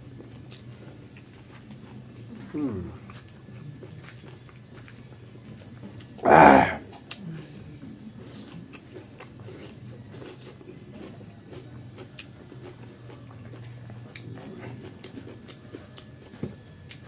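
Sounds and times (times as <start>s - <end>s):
person chewing food: 0.1s - 7.3s, 8.2s - 17.0s.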